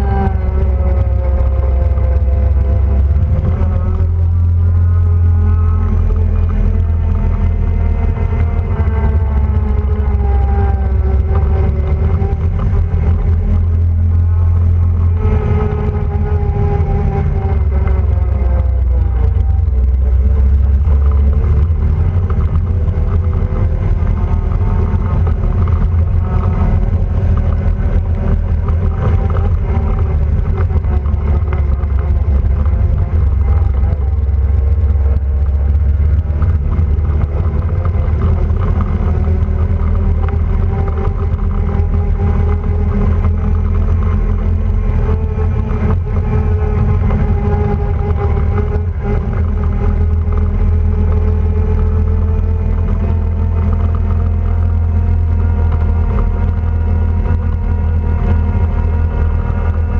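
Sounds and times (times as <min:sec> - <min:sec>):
quad bike engine rumbling: 0:00.0 - 0:59.9.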